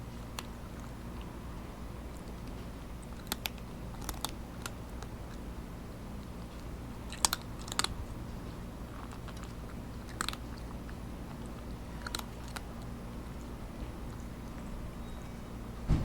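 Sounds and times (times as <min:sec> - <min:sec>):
cat crunching dry kibble: 0:00.0 - 0:14.7.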